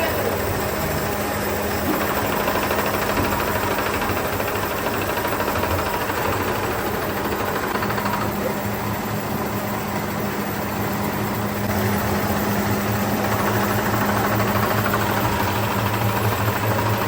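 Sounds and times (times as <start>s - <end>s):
industrial machinery humming: 0.0s - 17.0s.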